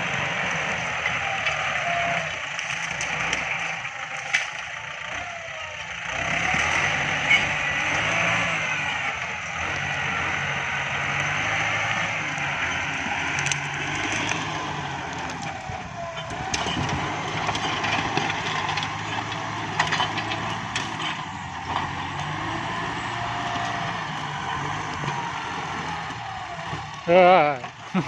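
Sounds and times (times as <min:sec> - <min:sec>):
tractor diesel engine running: 0:00.0 - 0:28.0
wood cracking: 0:00.0 - 0:28.0.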